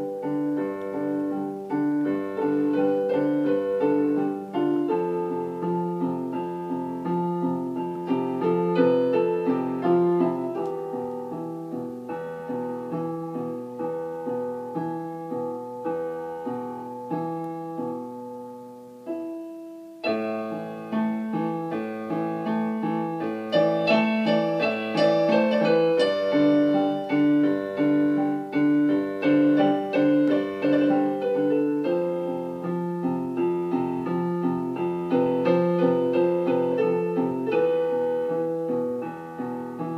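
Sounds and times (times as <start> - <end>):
piano playing: 0.0 - 39.9.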